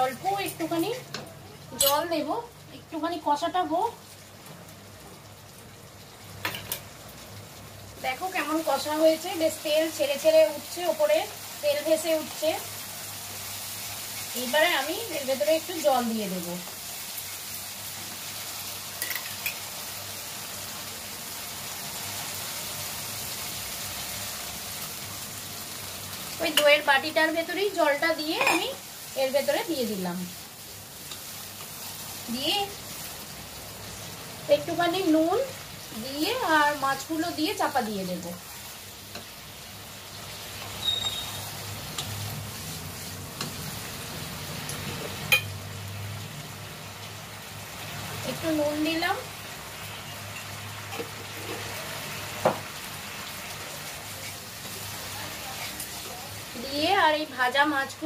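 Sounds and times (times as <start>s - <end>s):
food sizzling in oil in a pan: 0.0s - 58.0s.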